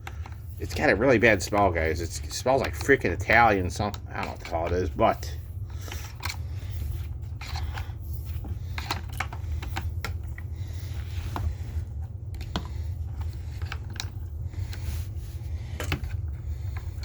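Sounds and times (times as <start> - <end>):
steady low rumble: 0.1 - 17.0.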